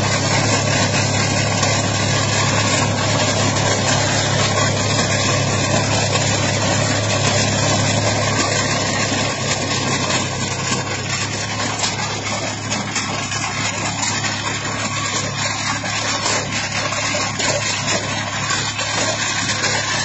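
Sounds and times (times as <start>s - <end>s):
machine mechanical rattle: 0.0s - 20.0s
tractor engine hum: 0.0s - 20.0s.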